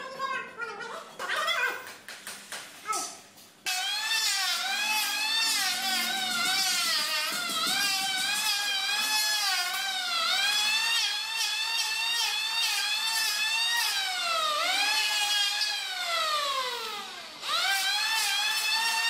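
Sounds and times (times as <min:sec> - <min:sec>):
electric planer whining: 0:03.7 - 0:19.0.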